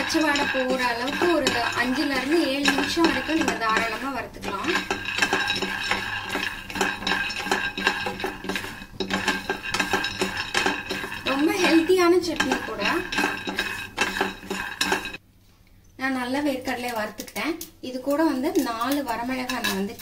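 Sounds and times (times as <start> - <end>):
peanuts rattling in a frying pan: 0.0 - 15.2, 16.2 - 20.0
spatula stirring: 0.0 - 15.2, 16.6 - 20.0.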